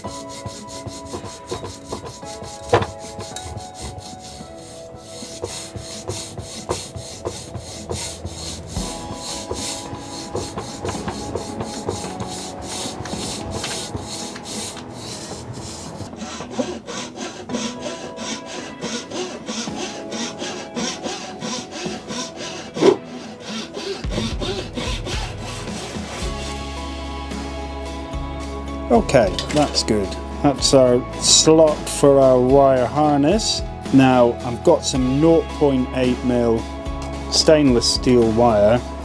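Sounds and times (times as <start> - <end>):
hand saw cutting wood: 0.0 - 26.8, 28.9 - 33.2, 37.4 - 38.9.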